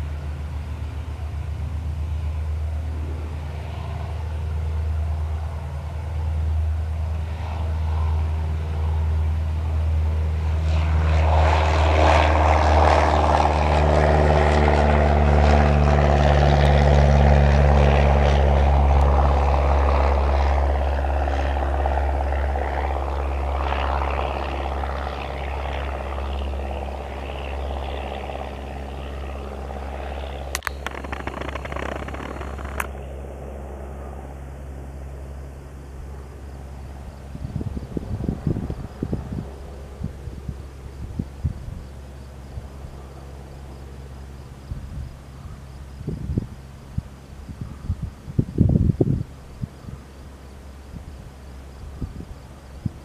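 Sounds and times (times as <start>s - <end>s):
propeller plane engine: 0.0s - 53.0s.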